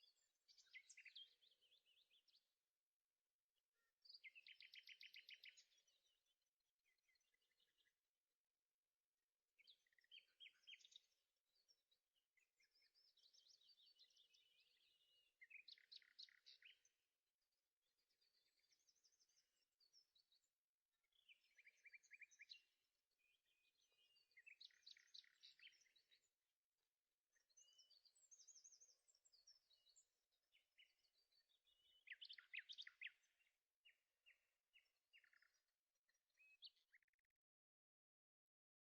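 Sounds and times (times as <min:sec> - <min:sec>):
faint birdsong trills and chirps: 0:00.0 - 0:38.9.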